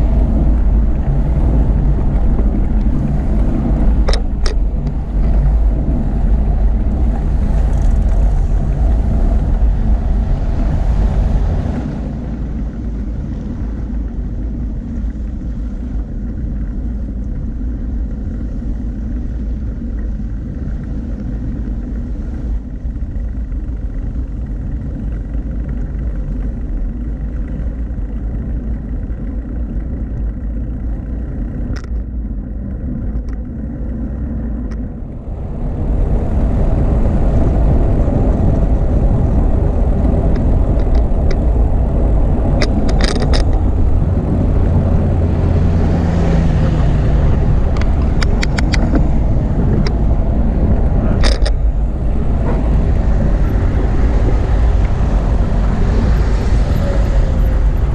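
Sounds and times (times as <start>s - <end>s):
road traffic: 0.0s - 57.9s
wind rumble on microphone: 0.0s - 57.9s.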